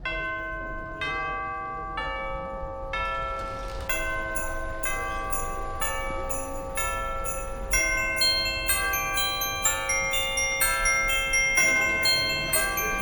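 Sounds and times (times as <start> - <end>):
bell-like chime music: 0.0 - 13.0.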